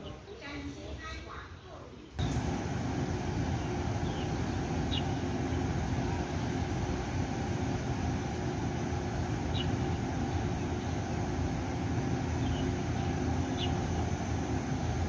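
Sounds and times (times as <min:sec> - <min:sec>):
train equipment humming: 0:02.2 - 0:15.0.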